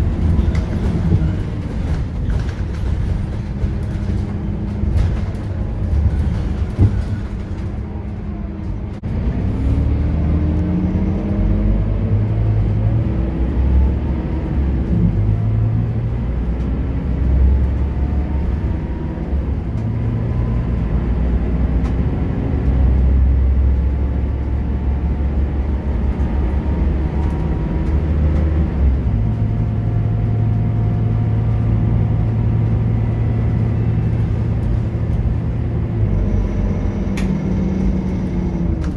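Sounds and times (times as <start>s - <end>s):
bus diesel engine: 0.0s - 38.9s.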